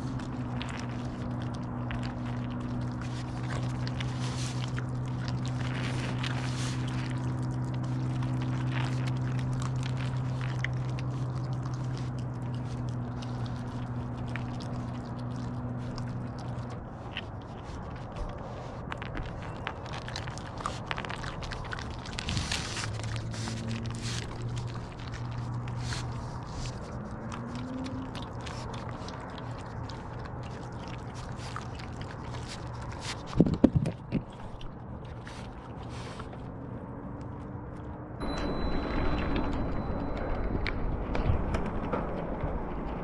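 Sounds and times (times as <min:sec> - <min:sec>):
raccoons crunching peanuts: 0:00.0 - 0:38.0
steady low hum: 0:00.0 - 0:43.0.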